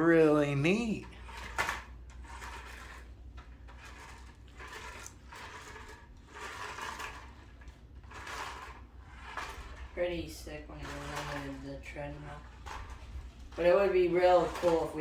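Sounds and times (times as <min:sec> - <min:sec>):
rc car motor whirring: 0:00.7 - 0:15.0.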